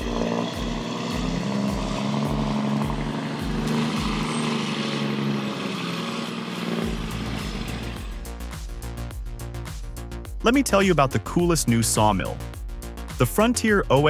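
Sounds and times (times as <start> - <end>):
bass beat thumps: 0.0 - 4.6, 6.7 - 14.0
engine running steadily: 0.0 - 12.5
low hum: 0.0 - 13.1.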